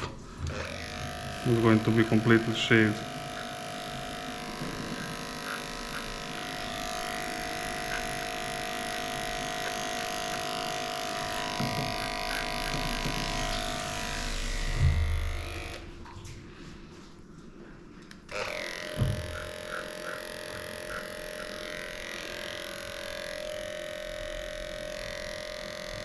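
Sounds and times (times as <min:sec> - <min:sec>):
electric clipper buzzing: 0:00.0 - 0:16.1, 0:18.2 - 0:26.0.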